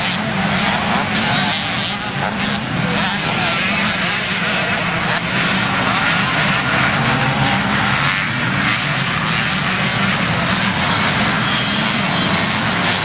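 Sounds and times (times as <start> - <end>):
motocross bike engines droning: 0.0 - 13.0.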